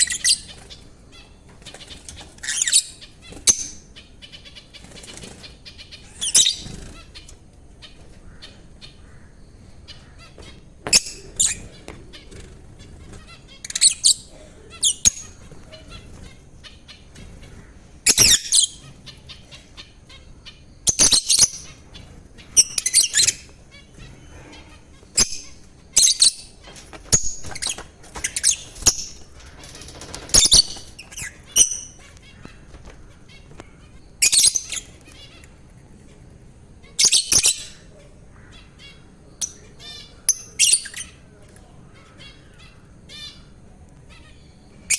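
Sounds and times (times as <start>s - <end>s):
lovebirds chirping and squawking: 0.0s - 44.9s.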